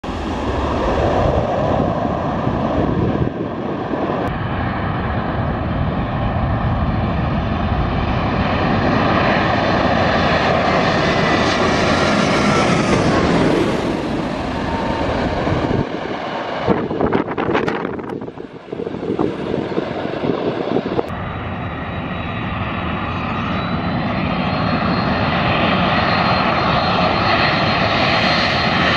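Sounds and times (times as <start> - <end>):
jet airliner roaring overhead: 0.0 - 28.9
jet engine whine: 0.0 - 28.9.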